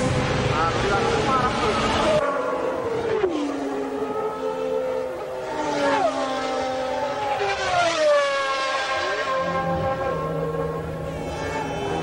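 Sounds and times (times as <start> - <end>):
racing car engine high revs: 0.0 - 12.0.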